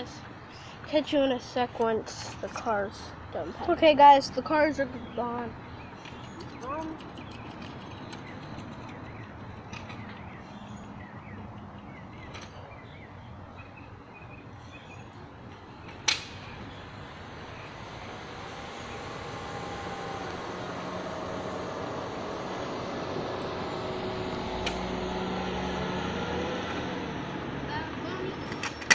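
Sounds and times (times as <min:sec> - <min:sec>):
distant traffic hum: 0:00.0 - 0:28.9.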